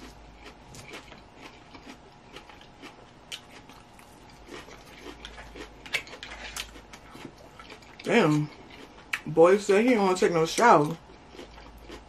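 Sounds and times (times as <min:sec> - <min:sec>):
chewing crisp lettuce: 0:00.0 - 0:12.0.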